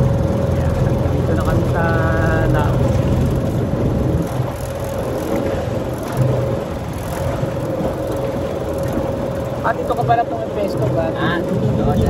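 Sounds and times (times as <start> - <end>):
boat motor running: 0.0 - 12.0
wind and water noise: 0.0 - 12.0.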